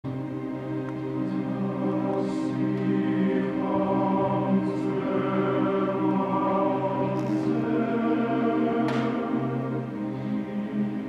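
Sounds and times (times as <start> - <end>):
choir and orchestra sustained chord: 0.0 - 11.0.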